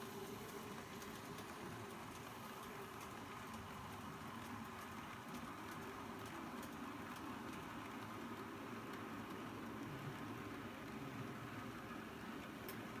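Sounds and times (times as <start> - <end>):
model train wheels rumbling: 0.0 - 13.0
wheels clicking over rail joints: 0.0 - 13.0.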